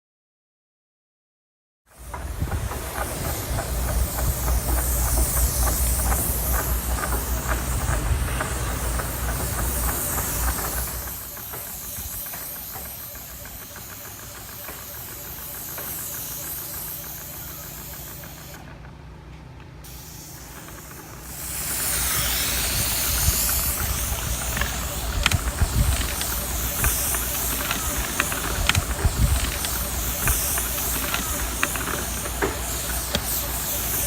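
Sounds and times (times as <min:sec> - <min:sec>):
spray nozzle hissing on tiles: 0:01.9 - 0:18.6, 0:19.8 - 0:34.0
spray rig engine running: 0:01.9 - 0:34.0.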